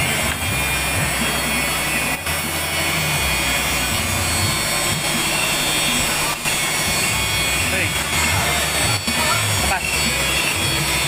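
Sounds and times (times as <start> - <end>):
end mill grinding plastic: 0.0 - 11.0
machine motor hum: 0.0 - 11.0.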